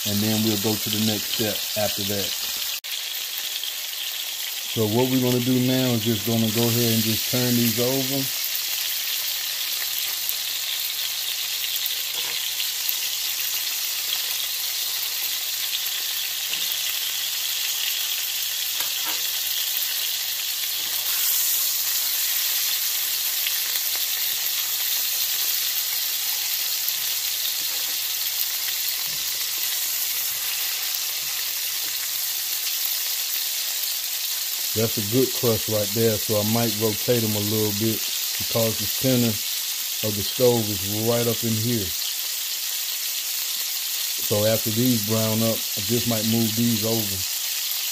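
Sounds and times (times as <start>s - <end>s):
steaks sizzling in oil: 0.0s - 47.9s.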